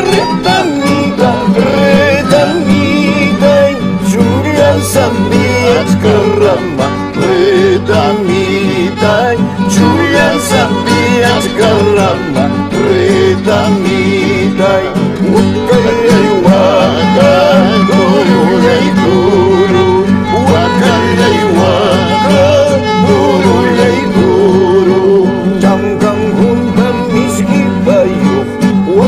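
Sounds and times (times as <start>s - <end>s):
acoustic guitars plucking: 0.0s - 29.0s
violin melody: 0.0s - 29.0s.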